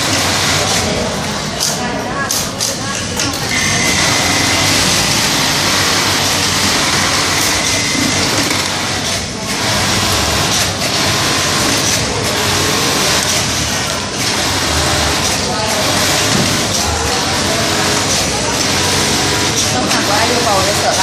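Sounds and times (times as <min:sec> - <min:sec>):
sewing machine whirring: 0:00.0 - 0:21.0.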